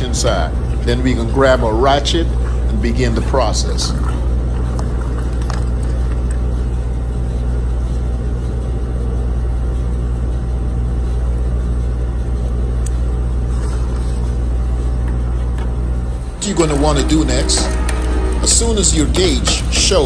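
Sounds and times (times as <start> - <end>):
air conditioner unit humming: 0.0 - 20.0.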